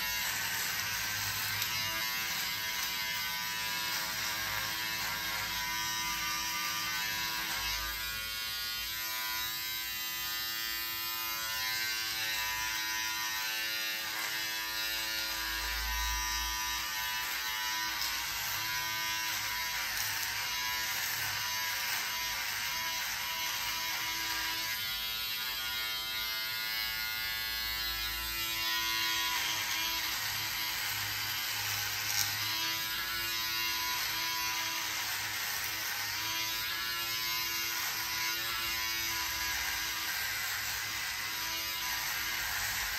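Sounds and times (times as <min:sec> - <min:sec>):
electric beard trimmer buzzing: 0:00.0 - 0:42.9.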